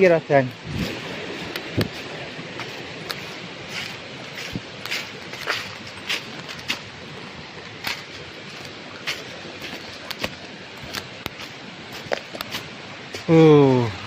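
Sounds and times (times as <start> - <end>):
stream rushing: 0.0 - 14.0
footsteps on rough path: 0.6 - 13.4.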